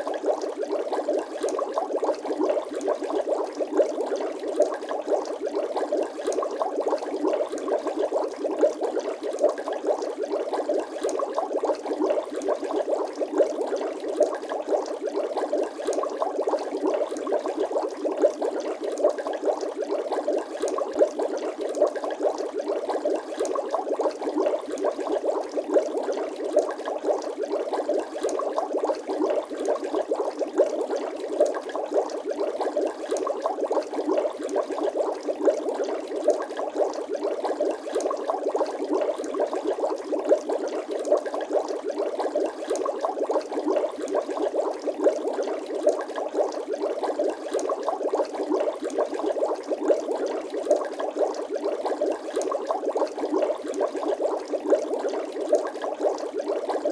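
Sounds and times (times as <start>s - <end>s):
water bubbling and gurgling: 0.0s - 56.9s.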